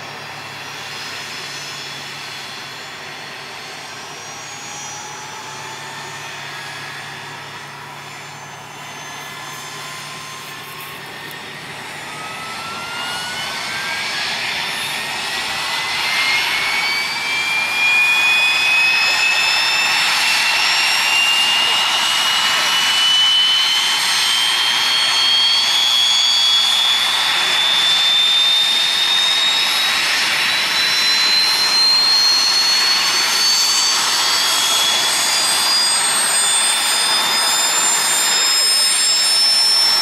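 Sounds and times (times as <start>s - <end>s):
helicopter turbine whine rising: 0.0s - 40.0s.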